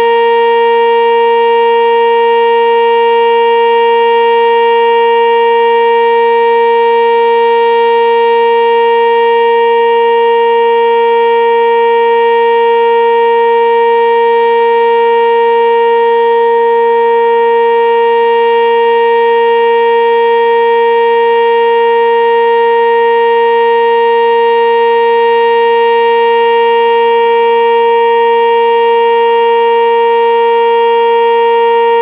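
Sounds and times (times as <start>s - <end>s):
storm siren steady tone: 0.0s - 32.0s.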